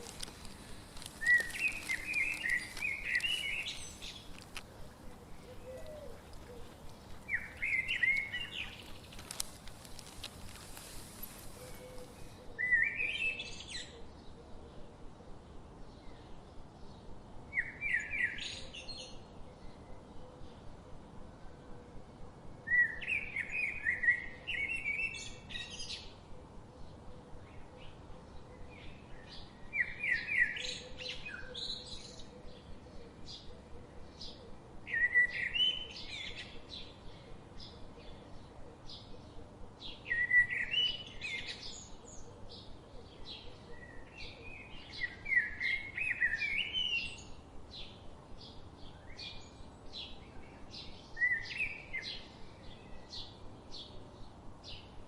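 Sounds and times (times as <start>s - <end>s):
bird singing: 0.0s - 14.4s, 22.7s - 55.0s.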